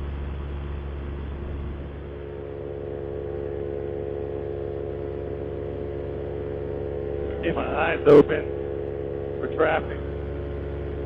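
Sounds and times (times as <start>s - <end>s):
two-stroke engine and propeller: 0.0s - 11.0s.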